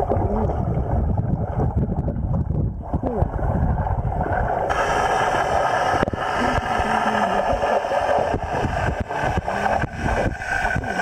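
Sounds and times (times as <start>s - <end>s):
bubbles clicking and crackling: 0.0s - 11.0s
underwater rushing noise: 0.0s - 11.0s.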